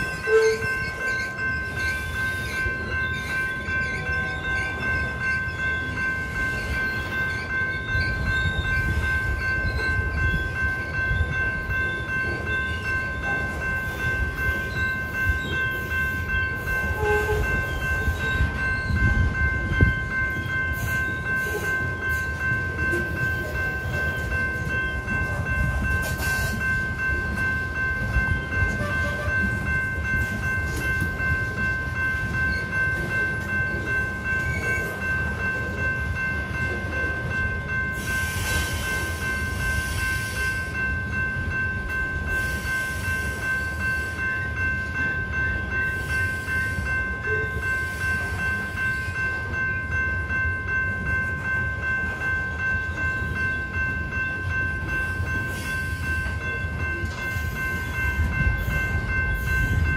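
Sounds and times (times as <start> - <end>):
electronic crossing bell ringing: 0.0 - 59.9
train wheels rumbling on rail: 0.0 - 59.9.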